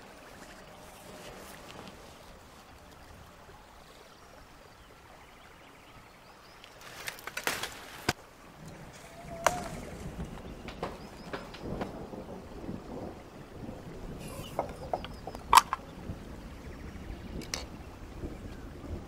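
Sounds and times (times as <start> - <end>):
faint outdoor background: 0.0 - 19.0
rustling leaves: 0.0 - 19.0.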